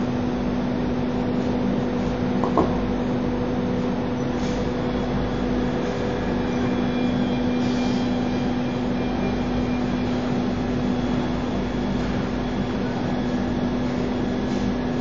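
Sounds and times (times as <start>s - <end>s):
wood router and dust extractor hum: 0.0s - 15.0s.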